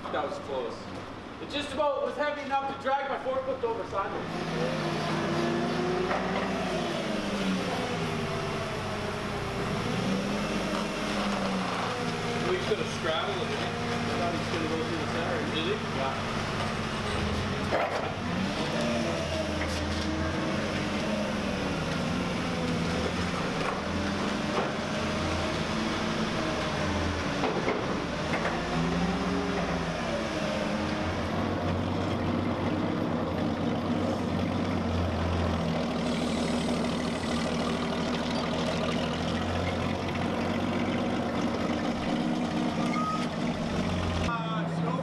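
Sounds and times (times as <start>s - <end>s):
forklift engine running: 3.5s - 44.4s.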